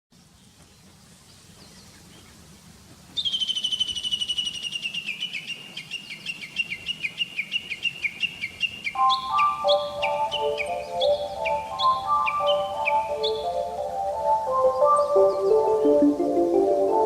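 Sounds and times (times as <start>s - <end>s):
faint outdoor background noise: 0.1s - 17.0s
bird trilling: 3.2s - 17.0s.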